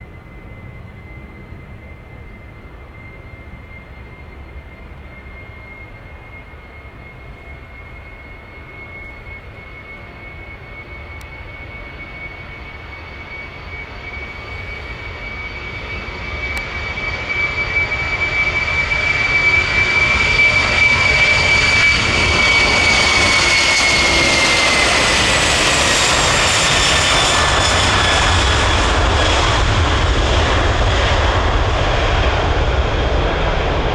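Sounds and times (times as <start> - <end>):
jet engines whine and roar: 0.0 - 33.9.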